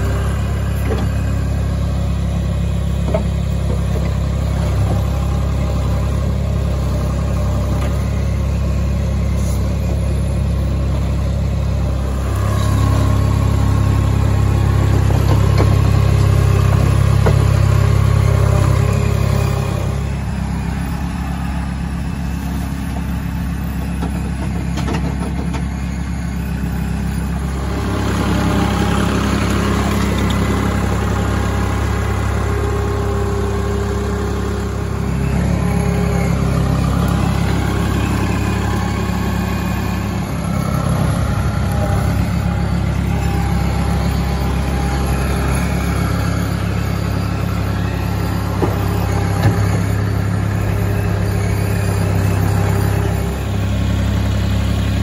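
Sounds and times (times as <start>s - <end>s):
skid steer engine running: 0.0s - 55.0s.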